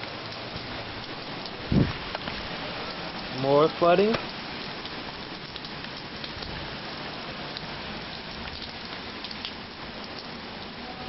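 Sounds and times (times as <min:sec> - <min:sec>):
heavy rain hissing: 0:00.0 - 0:11.0
raindrops ticking nearby: 0:00.0 - 0:11.0.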